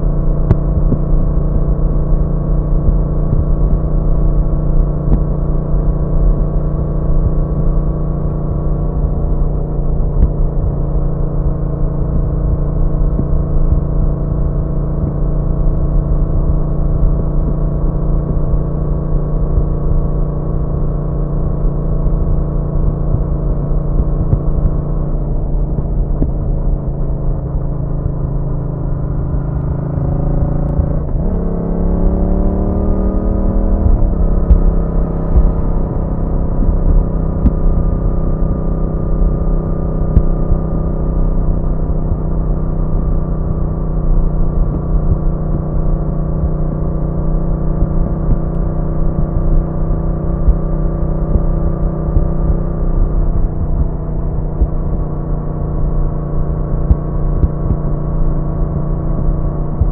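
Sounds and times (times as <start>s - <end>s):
motorcycle engine cruising: 0.0s - 59.9s
wind rumble: 0.0s - 59.9s.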